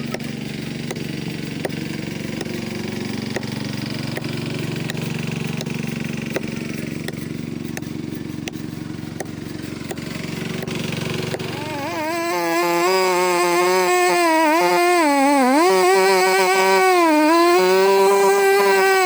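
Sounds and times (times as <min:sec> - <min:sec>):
sharp ticks: 0:00.0 - 0:17.6
chainsaw engine running: 0:00.0 - 0:19.0.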